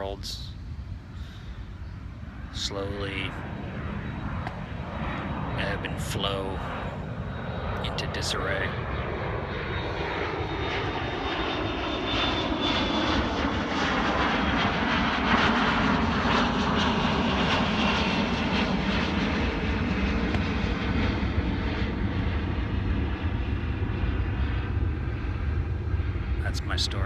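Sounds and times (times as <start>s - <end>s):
roaring drone with whining tones: 0.0s - 27.0s.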